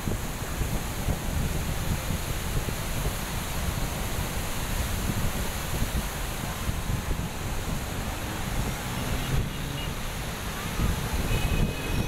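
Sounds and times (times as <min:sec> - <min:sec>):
floodwater rushing: 0:00.0 - 0:12.0
wind buffeting microphone: 0:00.0 - 0:12.0.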